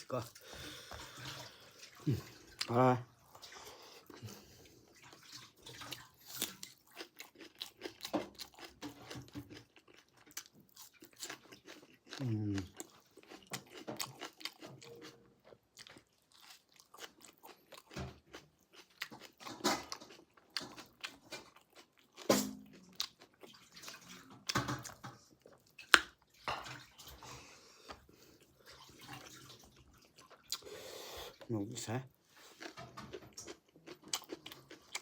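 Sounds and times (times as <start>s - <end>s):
person chewing: 0.0s - 31.5s, 32.3s - 35.0s.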